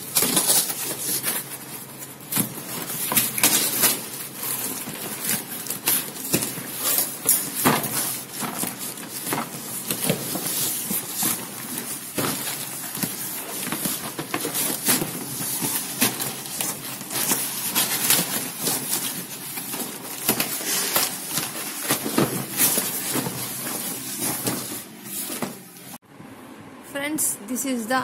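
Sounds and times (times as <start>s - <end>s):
cardboard box rustling and scraping: 0.0s - 25.7s.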